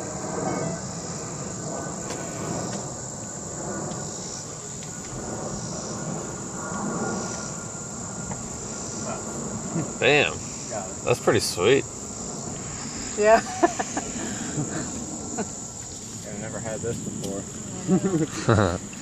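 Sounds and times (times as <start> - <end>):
high-pitched insect chorus: 0.0 - 19.0
low background rumble: 0.0 - 19.0.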